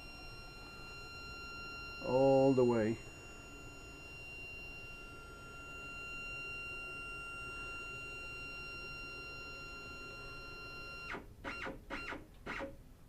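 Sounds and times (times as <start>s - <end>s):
stepper motor whine: 0.0s - 12.8s.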